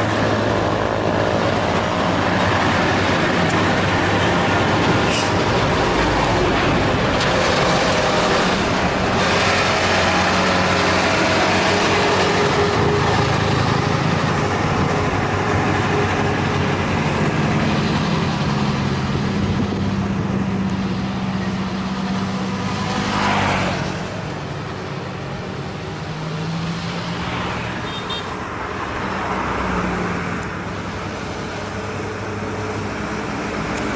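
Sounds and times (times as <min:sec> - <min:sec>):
truck diesel engine under load: 0:00.0 - 0:33.9.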